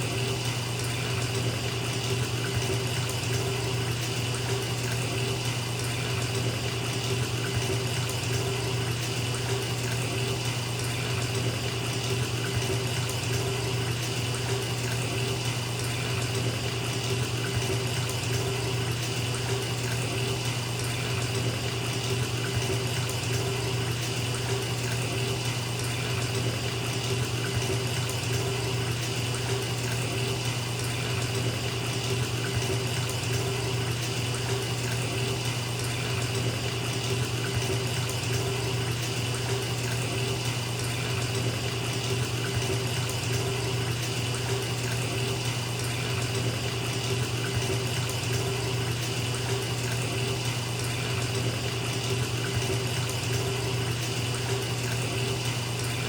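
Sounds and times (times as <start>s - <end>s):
tap water pouring into tub: 0.0s - 56.0s.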